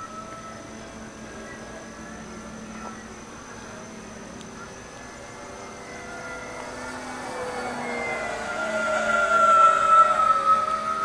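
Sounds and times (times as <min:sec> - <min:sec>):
distant model plane drone: 0:00.0 - 0:11.0.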